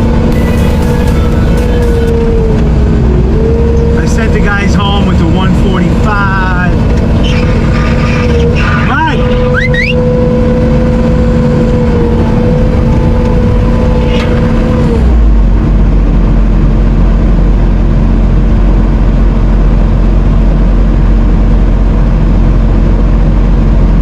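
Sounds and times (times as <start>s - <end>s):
diesel engine running under load: 0.0s - 24.0s
steady whine: 0.0s - 24.0s.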